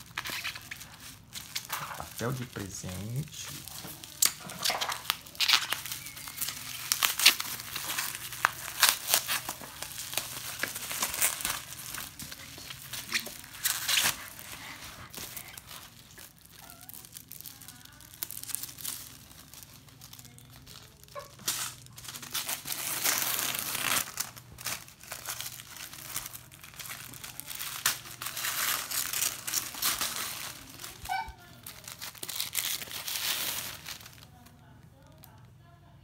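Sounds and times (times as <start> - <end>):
gift wrap crinkling and tearing: 0.0 - 35.7.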